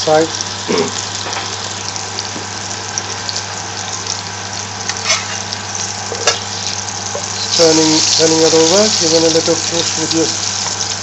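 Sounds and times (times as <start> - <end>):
patties sizzling in a pan: 0.0 - 11.0.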